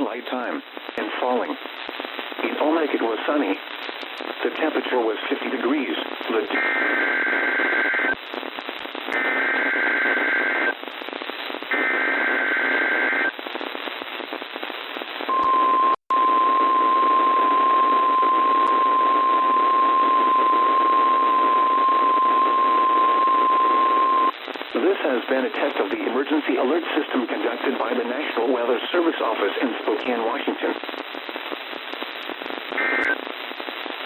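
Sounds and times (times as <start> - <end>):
radio hiss: 0.0 - 34.0.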